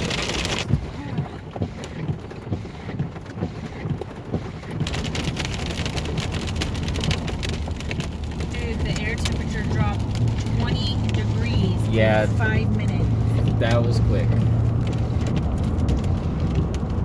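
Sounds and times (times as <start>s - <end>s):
car road rumble: 0.0s - 17.0s
hiss of rain and wind: 0.0s - 17.0s
raindrops tapping on car body: 0.0s - 17.0s.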